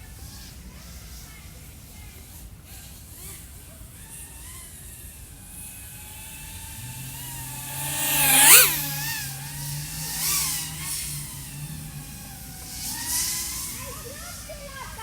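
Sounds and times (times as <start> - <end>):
quadcopter motors whining: 1.7 - 15.0.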